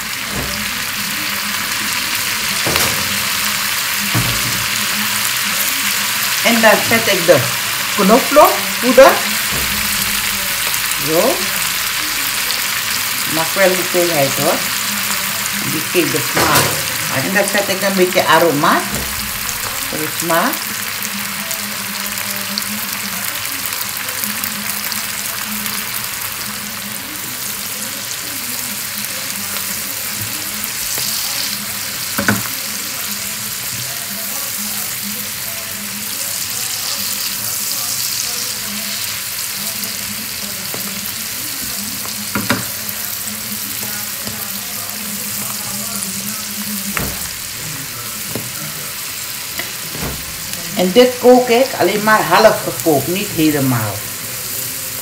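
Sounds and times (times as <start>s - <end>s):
spinach sizzling in pan: 0.0s - 55.0s.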